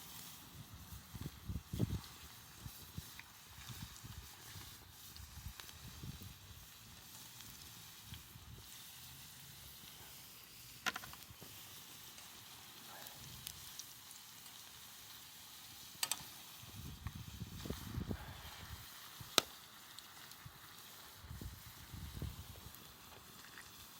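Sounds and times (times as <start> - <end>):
campfire crackling: 0.0 - 23.9
campfire popping: 0.0 - 23.9.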